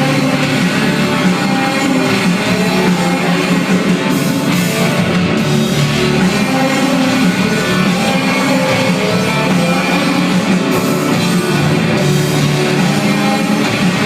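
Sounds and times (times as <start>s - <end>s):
bass guitar: 0.0s - 14.0s
distorted electric guitars: 0.0s - 14.0s
drum kit: 0.0s - 14.0s.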